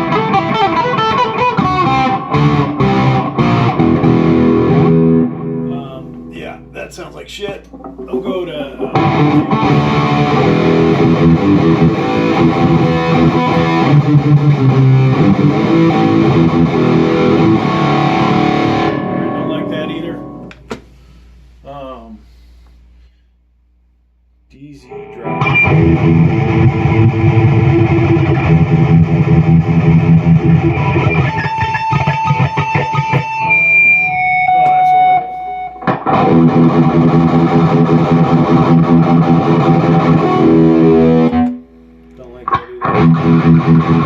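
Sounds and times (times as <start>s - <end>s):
distorted electric guitar: 0.0s - 6.8s, 7.6s - 20.7s, 24.9s - 44.0s.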